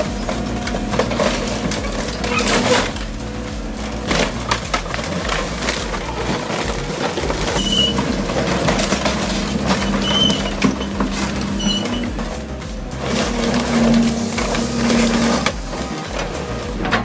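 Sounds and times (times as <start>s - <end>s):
excavator crushing vehicles: 0.0s - 17.0s
excavator engine running: 0.0s - 17.0s
high squeaks: 0.0s - 17.0s.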